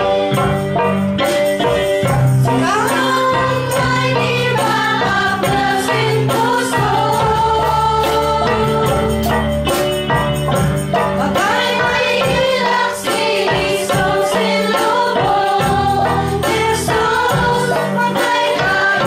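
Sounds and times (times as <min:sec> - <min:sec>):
light percussion beat: 0:00.0 - 0:19.0.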